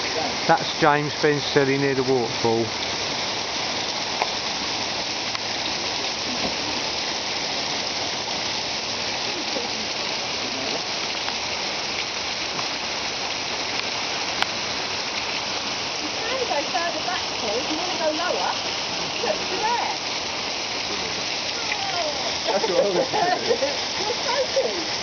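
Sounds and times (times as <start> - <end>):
waterfall rushing onto rocks: 0.0 - 25.0.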